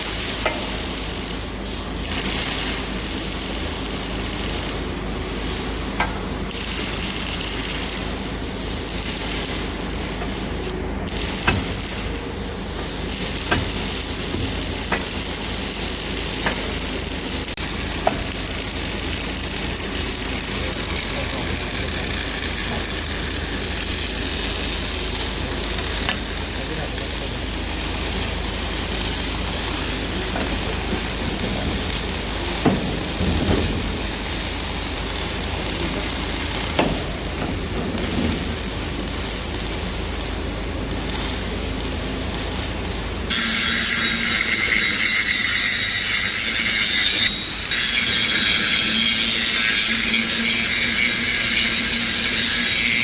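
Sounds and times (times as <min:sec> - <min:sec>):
welding arc crackling: 0:00.0 - 0:53.0.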